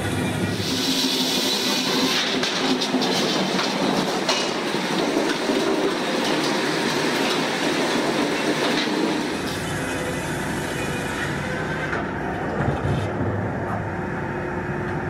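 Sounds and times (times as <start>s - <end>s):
machine rumble: 0.0s - 15.0s.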